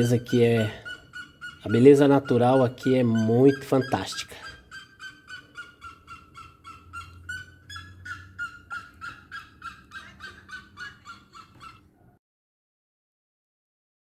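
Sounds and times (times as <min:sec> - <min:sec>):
bird calling in repeated notes: 0:00.0 - 0:11.9.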